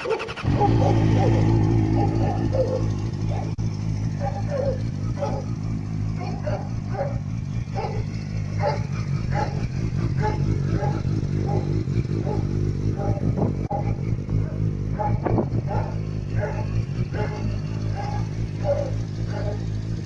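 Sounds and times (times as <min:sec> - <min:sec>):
dog barking: 0:00.0 - 0:20.0
motorcycle engine idling: 0:00.0 - 0:20.0.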